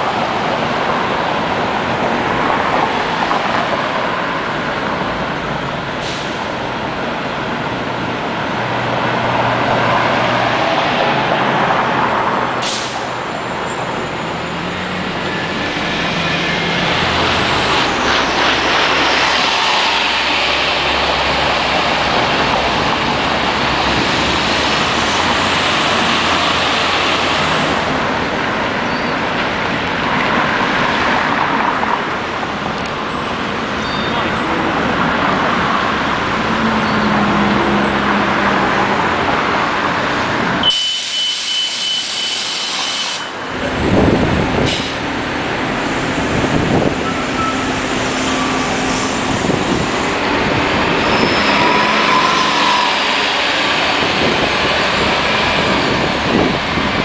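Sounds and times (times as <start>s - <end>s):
bus engines pulling away: 0.0s - 57.0s
passing traffic and tyre noise: 0.0s - 57.0s.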